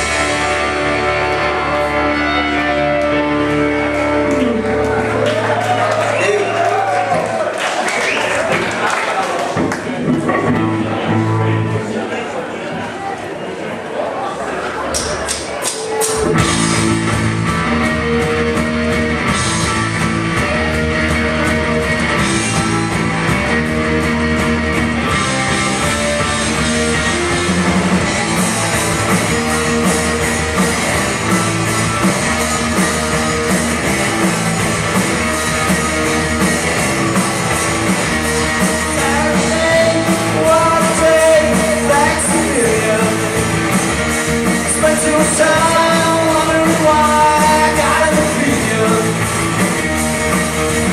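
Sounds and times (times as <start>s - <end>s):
rock band playing live: 0.0s - 12.8s, 15.0s - 50.9s.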